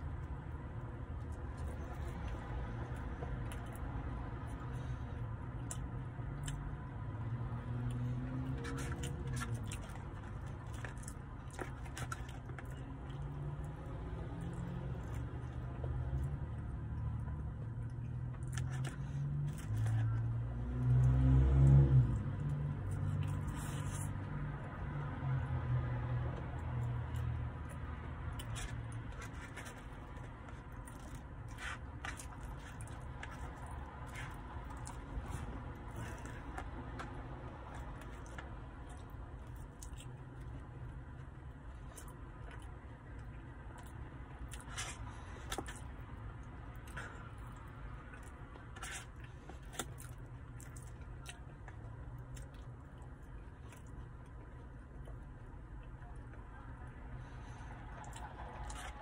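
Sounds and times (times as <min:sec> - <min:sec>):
chewing: 0:00.1 - 0:06.8, 0:07.8 - 0:21.2, 0:22.4 - 0:24.2, 0:26.4 - 0:59.0.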